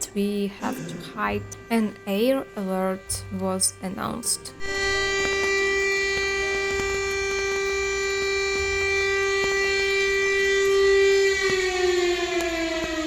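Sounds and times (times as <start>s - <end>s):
air raid siren wailing: 0.0s - 13.0s.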